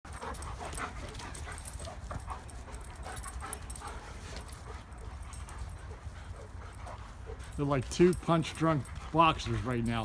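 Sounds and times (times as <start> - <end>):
dogs panting: 0.1 - 10.0.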